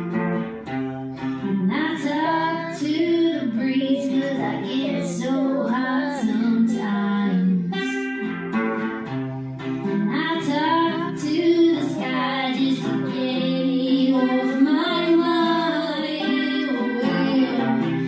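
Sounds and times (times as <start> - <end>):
strummed acoustic guitar: 0.0 - 18.0
woman singing: 1.4 - 8.1, 9.8 - 18.0.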